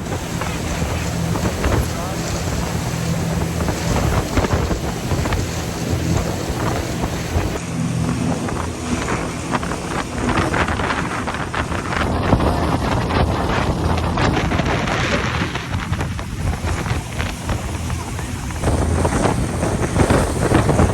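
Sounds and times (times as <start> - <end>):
ferry engine drone: 0.0 - 20.9
wind buffeting microphone: 0.0 - 20.9.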